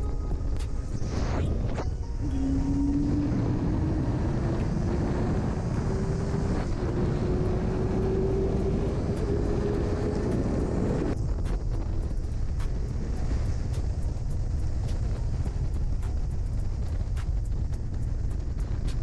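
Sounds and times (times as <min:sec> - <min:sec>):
wind rush over microphone: 0:00.0 - 0:19.0
motorcycle engine accelerating: 0:00.6 - 0:19.0.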